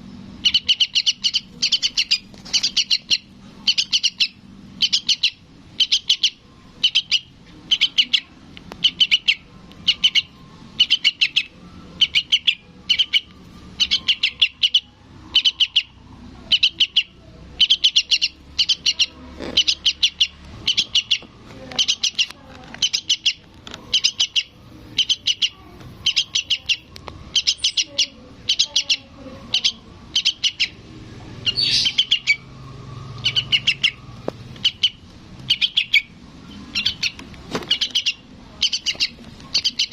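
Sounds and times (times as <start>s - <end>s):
fledgling bird begging calls: 0.4s - 39.9s.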